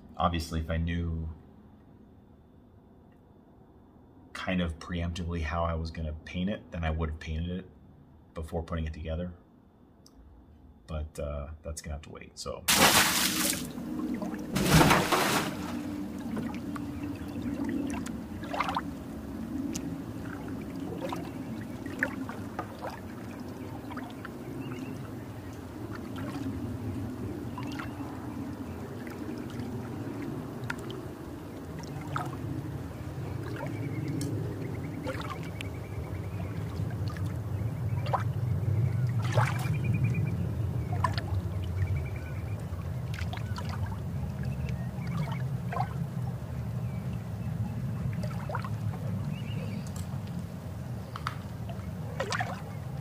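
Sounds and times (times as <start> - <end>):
low rumbling background: 3.9 - 53.0.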